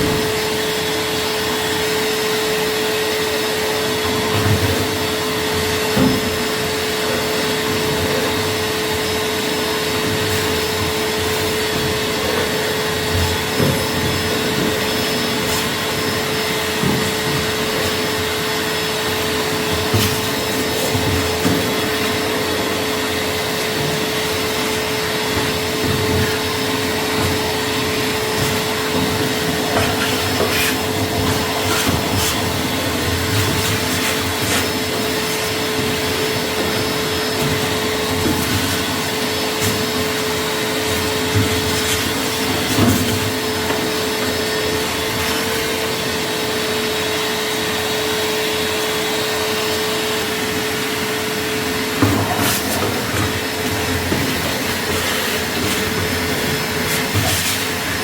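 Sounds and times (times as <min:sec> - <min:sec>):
appliance motor whining: 0:00.0 - 0:58.0.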